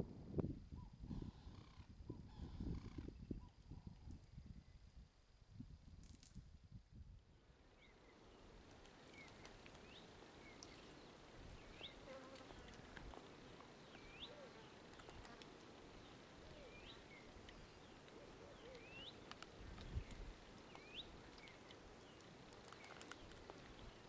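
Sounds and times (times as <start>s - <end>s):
steady low hiss: 2.7s - 24.0s.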